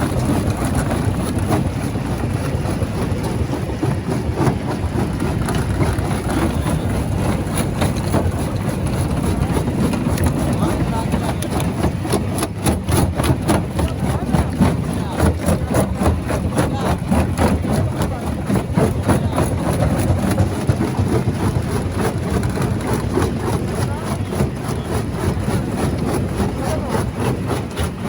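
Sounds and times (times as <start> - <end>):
rock crusher drone: 0.0 - 28.0.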